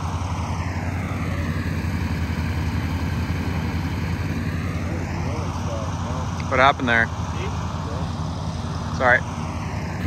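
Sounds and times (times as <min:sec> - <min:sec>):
golf cart motor running: 0:00.0 - 0:10.0.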